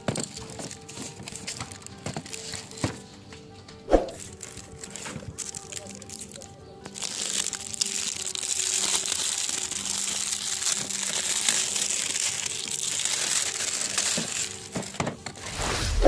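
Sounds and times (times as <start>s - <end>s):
plastic film crinkling: 0.0s - 3.2s, 4.2s - 15.6s.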